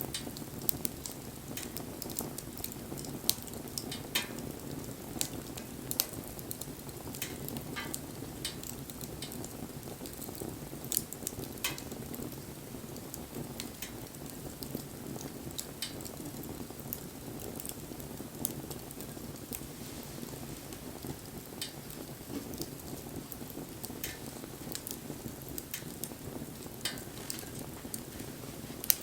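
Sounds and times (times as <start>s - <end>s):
bonfire flame rushing: 0.0s - 29.0s
fire crackles and pops: 0.0s - 29.0s.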